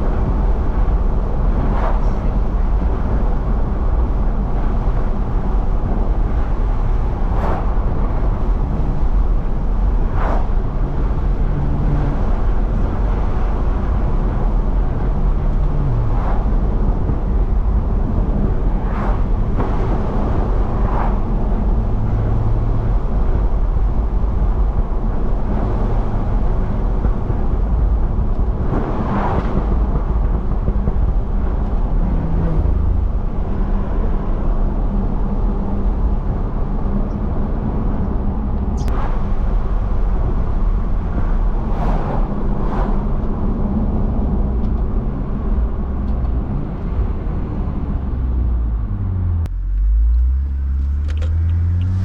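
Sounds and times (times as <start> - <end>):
car engine running: 0.0 - 52.0
road and tyre noise: 0.0 - 52.0.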